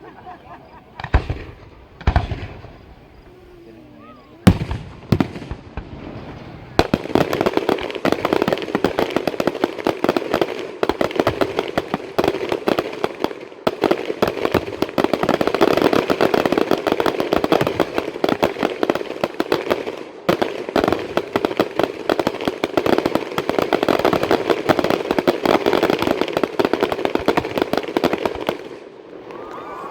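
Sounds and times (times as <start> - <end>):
fireworks crackling: 0.0 - 29.9.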